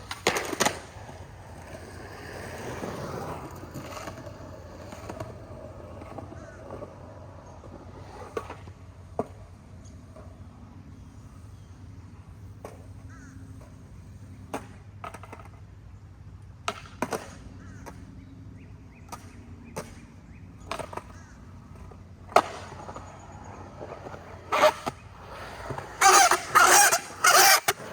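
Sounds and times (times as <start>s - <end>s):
skateboard clacking on ground: 0.0s - 10.4s, 12.5s - 15.7s, 16.6s - 18.1s, 19.0s - 27.9s
skateboard wheels rolling on concrete: 0.0s - 27.9s.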